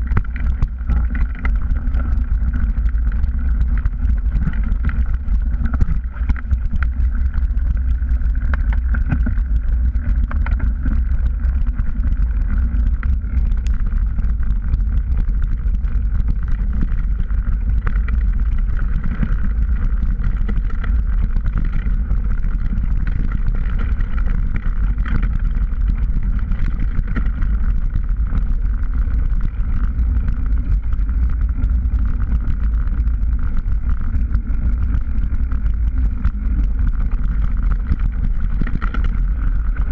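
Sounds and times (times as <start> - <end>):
bike rattling over dirt trail: 0.0 - 39.9
wind noise on microphone: 0.0 - 39.9.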